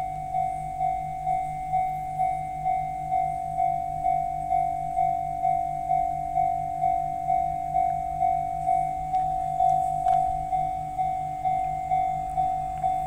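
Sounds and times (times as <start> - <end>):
level crossing warning bell ringing: 0.0 - 13.0.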